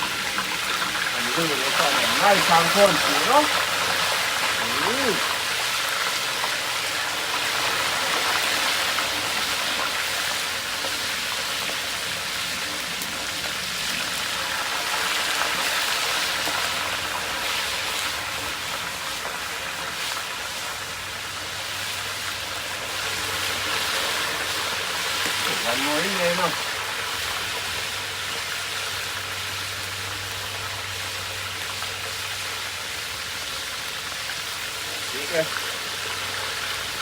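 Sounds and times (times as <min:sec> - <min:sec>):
fish deep-frying in oil: 0:00.0 - 0:37.0.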